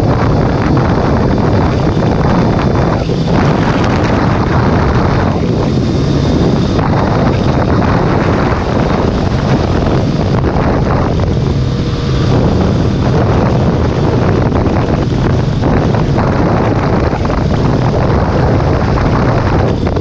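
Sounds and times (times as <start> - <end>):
motorcycle engine drone: 0.0 - 20.0
wind rushing over microphone: 0.0 - 20.0.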